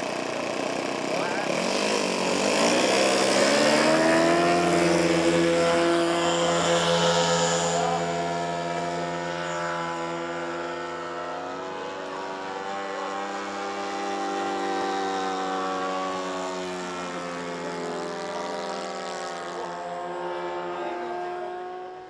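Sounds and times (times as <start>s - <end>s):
model airplane engine drone: 0.0s - 22.0s.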